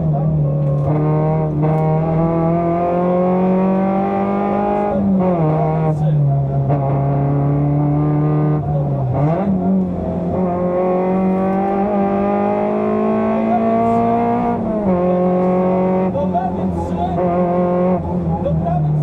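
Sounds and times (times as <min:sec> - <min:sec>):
car engine revving from inside: 0:00.0 - 0:19.0.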